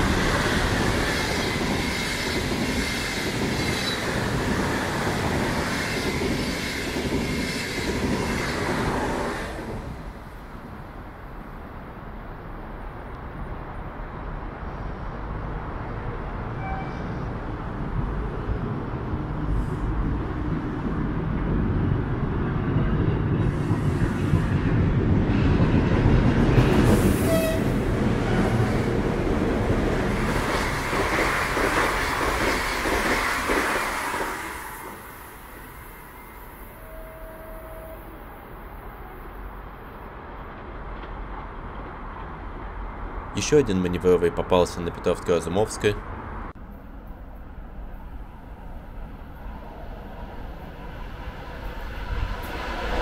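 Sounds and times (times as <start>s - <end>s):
train passing at speed: 0.0s - 53.0s.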